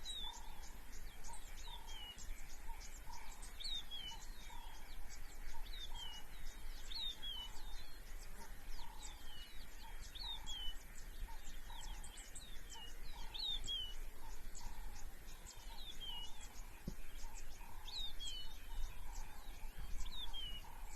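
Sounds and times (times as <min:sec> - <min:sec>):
birds calling: 0:00.0 - 0:20.9.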